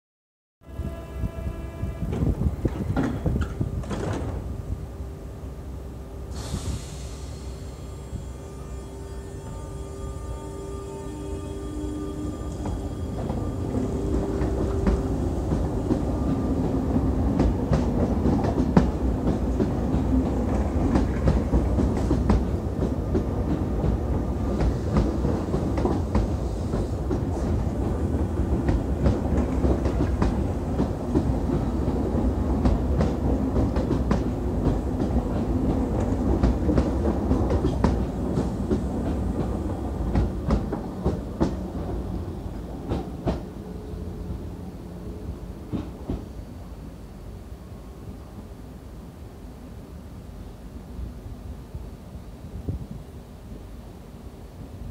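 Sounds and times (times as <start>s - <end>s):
train rumbling: 0.7s - 54.9s.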